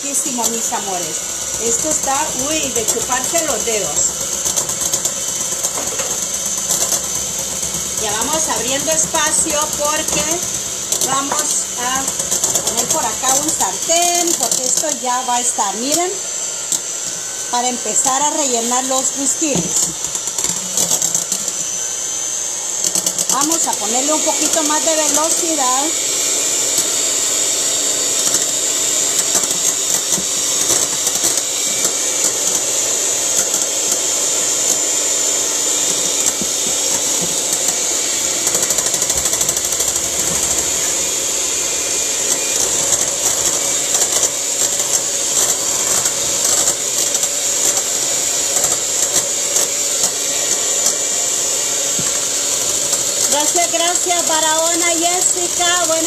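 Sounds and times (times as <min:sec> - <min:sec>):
electric hand mixer whipping eggs: 0:00.0 - 0:56.0.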